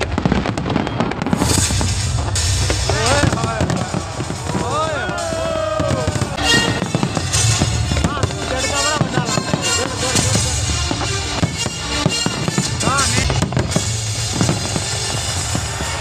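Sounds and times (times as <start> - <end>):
fireworks bangs: 0.0 - 16.0
fireworks crackling: 0.0 - 16.0
music playing: 1.2 - 16.0.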